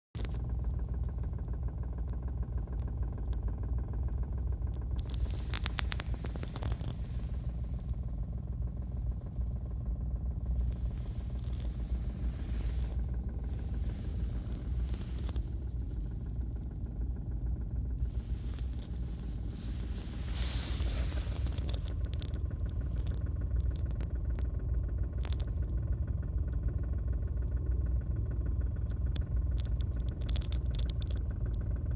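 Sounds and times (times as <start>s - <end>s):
van engine rumbling: 0.1s - 31.9s
abnormal engine noise: 0.2s - 31.9s.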